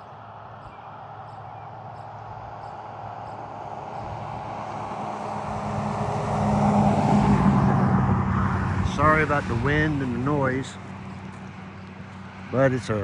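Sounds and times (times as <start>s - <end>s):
road vehicle approaching: 0.0s - 13.0s.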